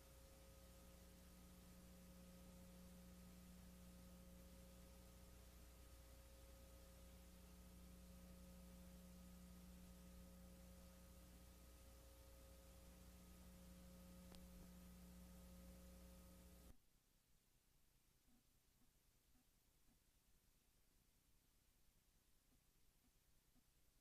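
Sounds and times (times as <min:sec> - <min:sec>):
faint electrical hum: 0:00.0 - 0:24.0
low hiss: 0:00.0 - 0:24.0.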